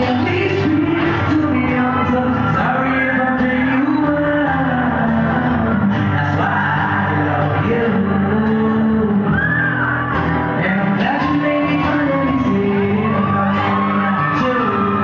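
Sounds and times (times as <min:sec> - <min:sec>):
amplified live concert music: 0:00.0 - 0:15.0
man singing: 0:00.0 - 0:15.0.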